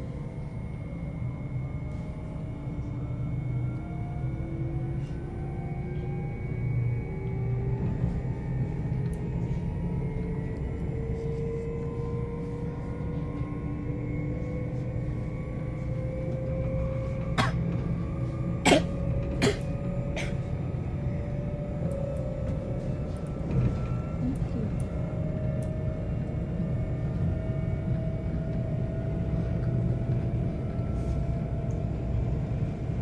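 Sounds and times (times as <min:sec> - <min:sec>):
train running gear rumble: 0:00.0 - 0:33.0.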